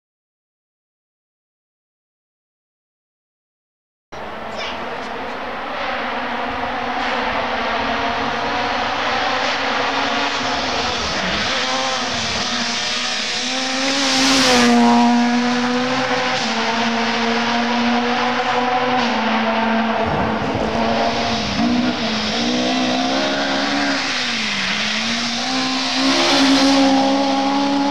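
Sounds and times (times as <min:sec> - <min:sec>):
rally car engine revving: 0:04.2 - 0:27.9.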